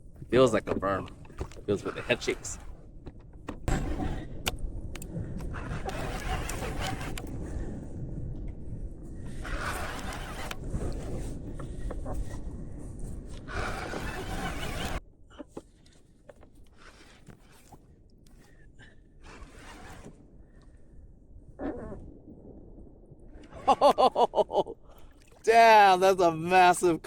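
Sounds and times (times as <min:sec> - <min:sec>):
wind buffeting microphone: 0:00.0 - 0:15.3, 0:17.4 - 0:25.4.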